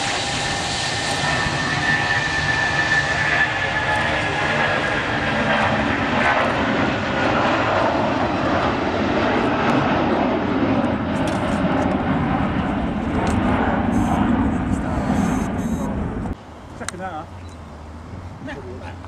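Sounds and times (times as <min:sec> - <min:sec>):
high engine whine: 0:00.0 - 0:19.0
jet engine rumble: 0:00.0 - 0:19.0.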